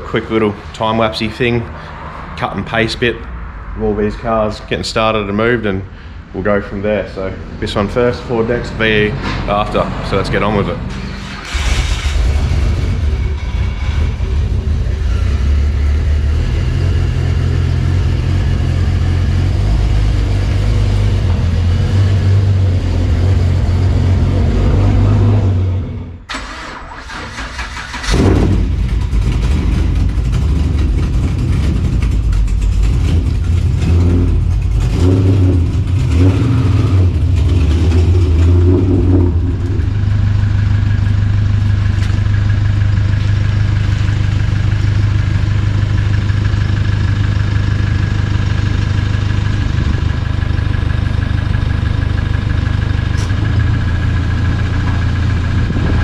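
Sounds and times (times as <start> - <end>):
car engine starting and idling: 0.0 - 56.0.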